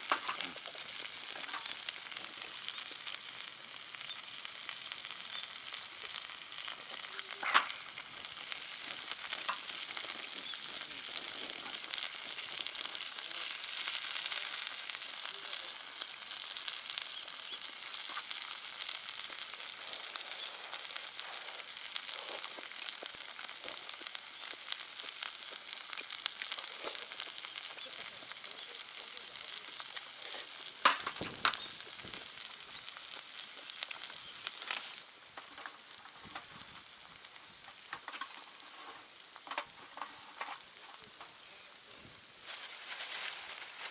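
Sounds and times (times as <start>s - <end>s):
meat sizzling on a grill pan: 0.0s - 43.9s.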